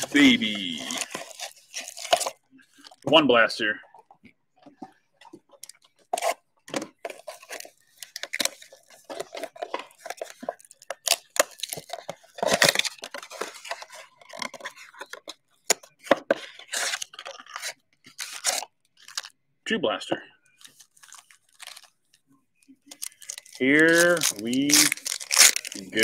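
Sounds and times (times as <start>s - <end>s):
plastic wrappers crinkling and tearing: 0.0s - 3.1s, 4.8s - 19.4s, 20.6s - 22.2s, 22.8s - 26.0s.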